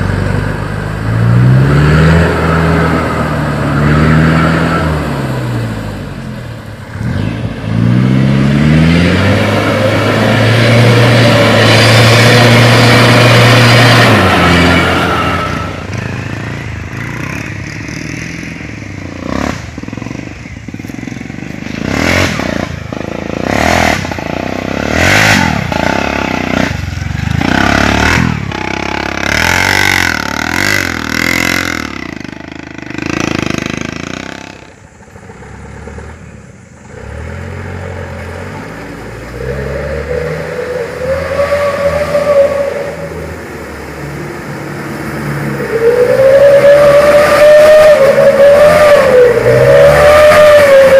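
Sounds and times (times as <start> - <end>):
motorcycle engine revving: 0.0 - 50.9
truck engine under load: 0.0 - 50.9.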